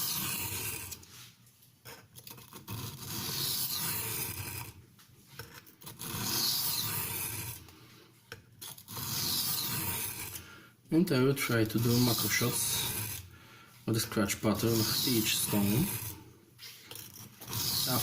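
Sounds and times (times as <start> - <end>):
knife grinding on sharpening stone: 0.0 - 7.7, 8.6 - 10.4, 11.5 - 13.3, 14.5 - 18.0.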